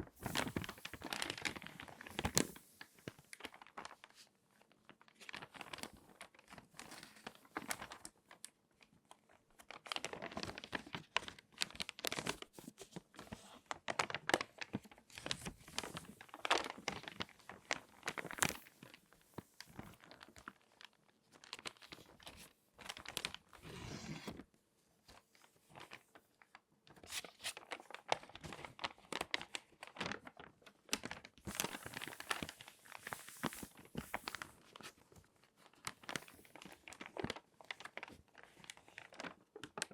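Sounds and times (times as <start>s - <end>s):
magazine pages crinkling: 0.2s - 4.3s, 4.9s - 8.1s, 9.6s - 24.4s, 25.4s - 39.9s.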